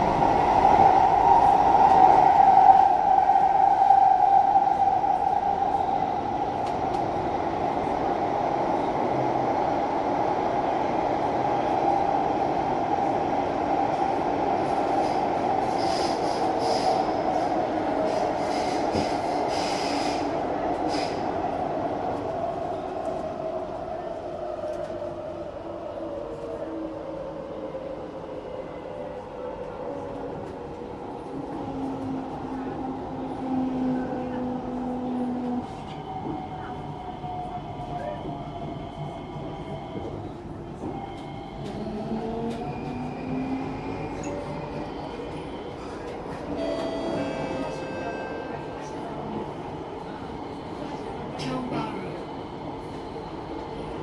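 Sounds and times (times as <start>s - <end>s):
train wheels on rail: 0.0s - 25.6s, 29.6s - 54.0s.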